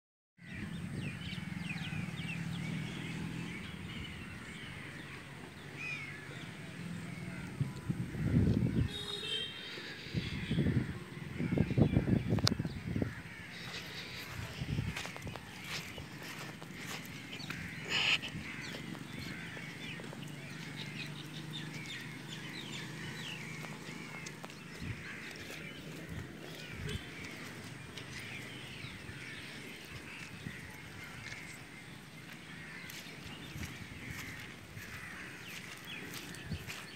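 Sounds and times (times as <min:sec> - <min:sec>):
birds chirping: 0:00.4 - 0:36.9.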